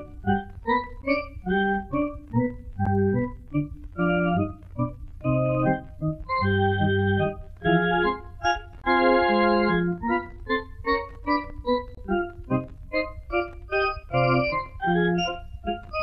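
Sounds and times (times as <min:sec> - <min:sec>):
organ music: 0:00.0 - 0:16.0.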